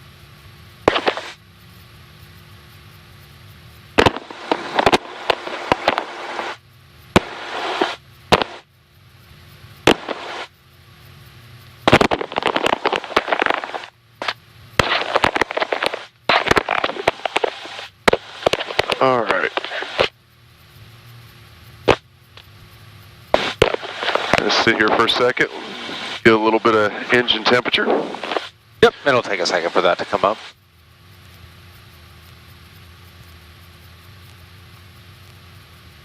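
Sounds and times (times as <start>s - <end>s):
crackling headset static: 0.0s - 36.0s
low steady hum: 0.0s - 36.0s.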